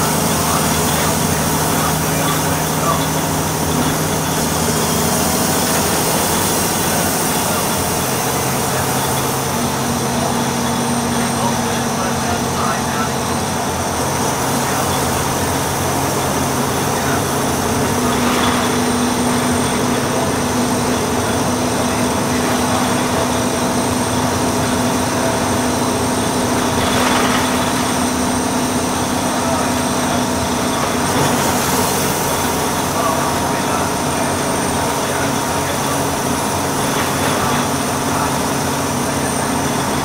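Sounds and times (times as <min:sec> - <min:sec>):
bus diesel engine drone: 0:00.0 - 0:40.0.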